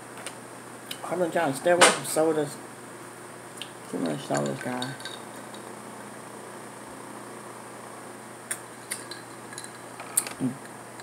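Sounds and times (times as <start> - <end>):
electric desk fan hiss: 0.0 - 11.0.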